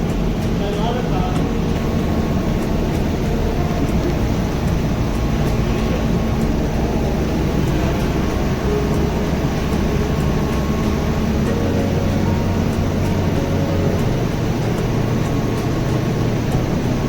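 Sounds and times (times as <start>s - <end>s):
faint steady hum: 0.0s - 17.0s
loud machinery drone: 0.0s - 17.0s.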